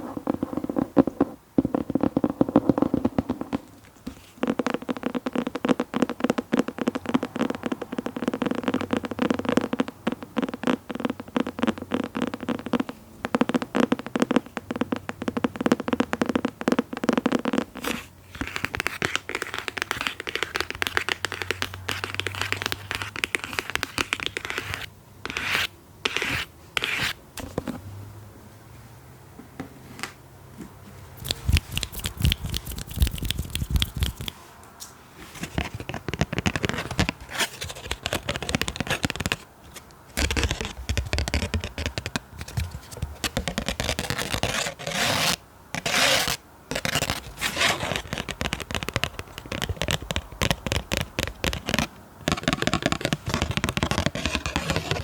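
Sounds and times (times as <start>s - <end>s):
scratching and tapping: 0.0s - 27.8s, 31.2s - 34.4s, 35.4s - 55.0s.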